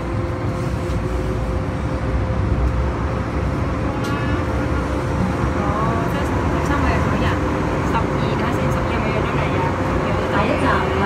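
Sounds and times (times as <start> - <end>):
constant hum: 0.0 - 11.0
train wheels rumbling: 0.0 - 11.0.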